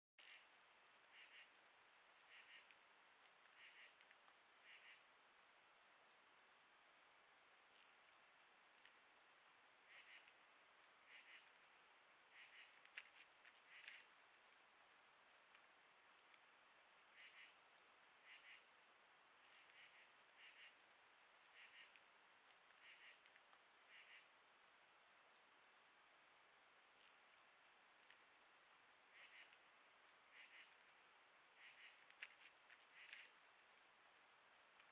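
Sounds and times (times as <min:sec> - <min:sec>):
night insects droning: 0:00.2 - 0:34.9.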